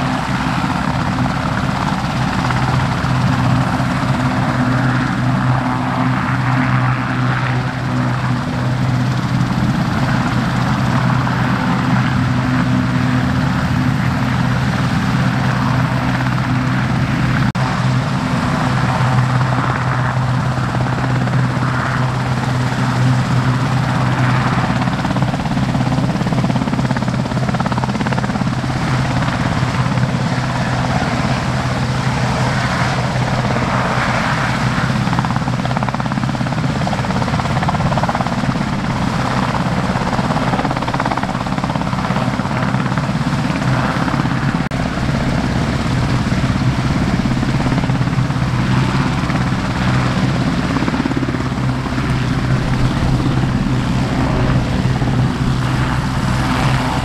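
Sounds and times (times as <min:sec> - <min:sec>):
helicopter hovering: 0:00.0 - 0:57.0.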